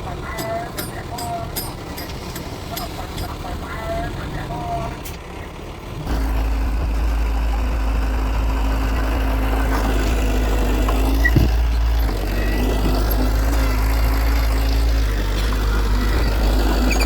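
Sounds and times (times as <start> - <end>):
heavy diesel engine rumbling: 0.0 - 17.0.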